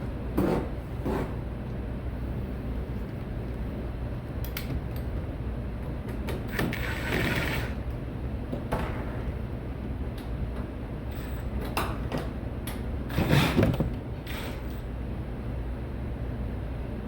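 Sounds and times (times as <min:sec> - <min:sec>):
server equipment low hum: 0:00.0 - 0:17.0.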